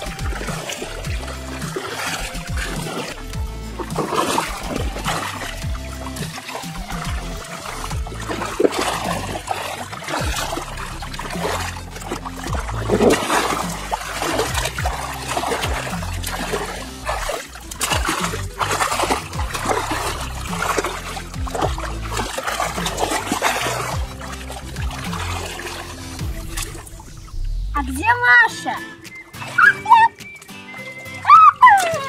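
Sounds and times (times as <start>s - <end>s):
background music: 0.0s - 32.0s
water splashing in paddling pool: 0.0s - 32.0s.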